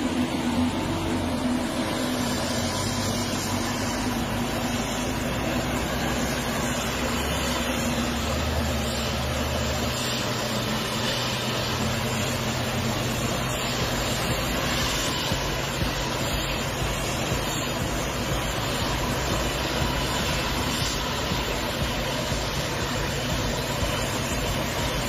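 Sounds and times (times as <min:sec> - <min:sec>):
dense rushing noise: 0:00.0 - 0:25.0
forage harvester running under load: 0:00.0 - 0:25.0.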